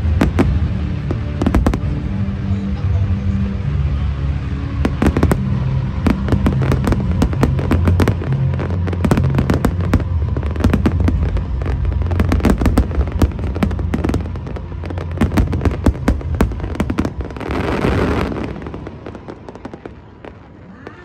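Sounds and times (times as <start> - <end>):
fireworks crackling and popping: 0.0 - 2.5, 4.4 - 21.0
deep low rumble: 0.0 - 20.5.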